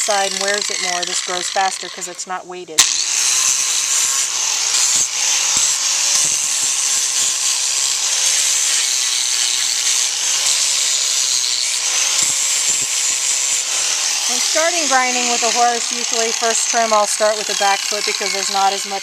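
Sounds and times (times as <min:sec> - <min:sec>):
electric grinder grinding hoof: 0:00.0 - 0:19.0.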